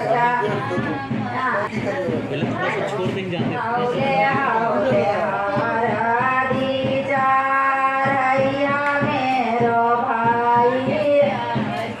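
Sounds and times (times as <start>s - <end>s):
woman singing: 0.0s - 1.9s, 3.5s - 12.0s.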